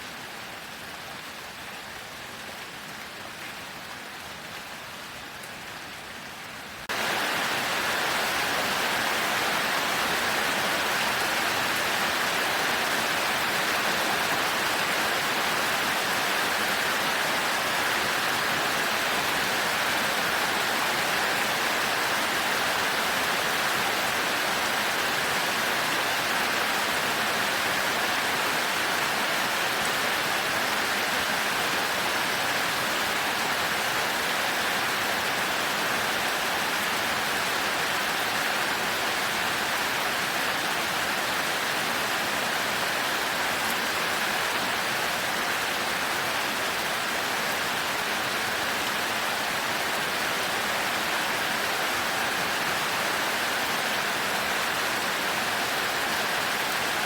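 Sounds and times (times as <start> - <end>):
heavy rain falling: 6.7 - 57.0.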